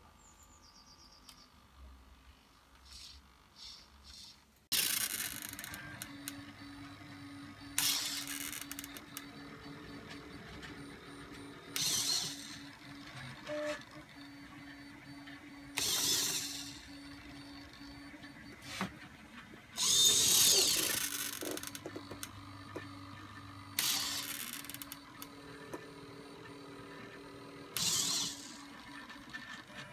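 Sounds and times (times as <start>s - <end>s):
servo motor driving gear: 4.1s - 19.0s, 19.7s - 29.9s.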